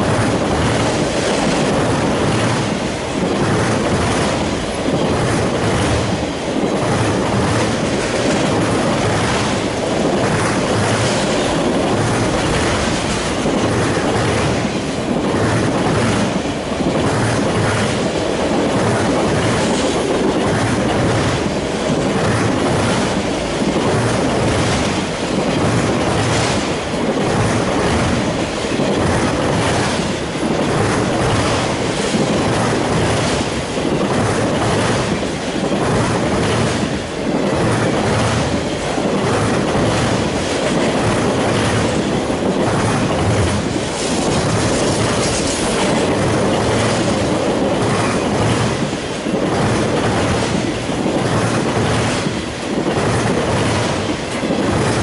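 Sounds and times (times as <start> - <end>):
train wheels clacking on rails: 0.0 - 55.0.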